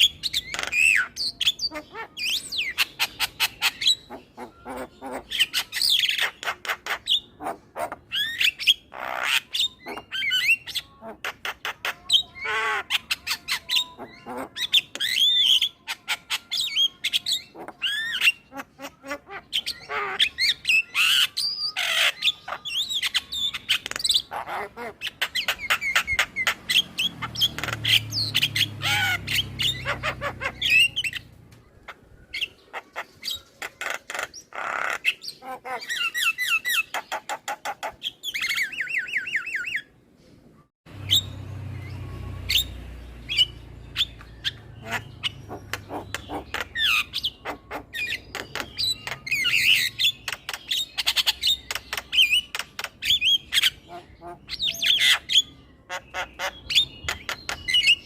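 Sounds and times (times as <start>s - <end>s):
myna chattering song: 0.0s - 8.2s, 8.8s - 38.0s, 41.1s - 53.0s.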